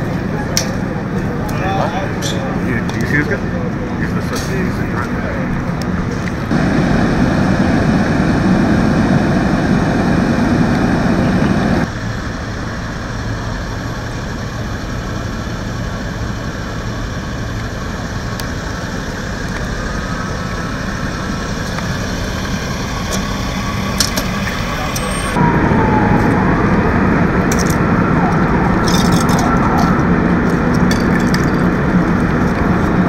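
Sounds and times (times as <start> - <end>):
fire engine idling: 0.0 - 33.0.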